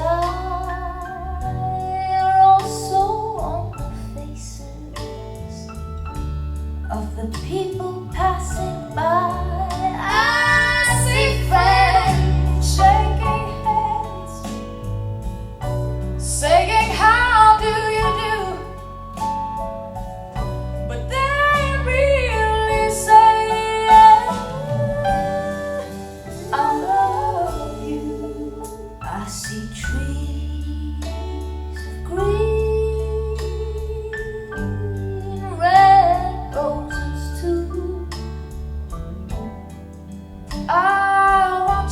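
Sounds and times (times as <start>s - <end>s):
woman singing: 0.0s - 5.8s, 6.9s - 14.7s, 16.2s - 18.9s, 20.9s - 39.8s, 40.5s - 41.9s
instrumental accompaniment: 0.0s - 41.9s.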